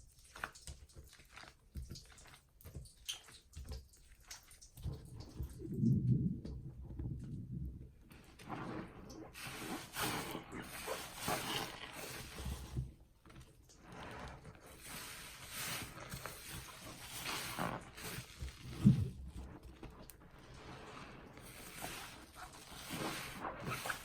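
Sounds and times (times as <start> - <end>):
sponge squelching in lather: 0.0 - 24.0.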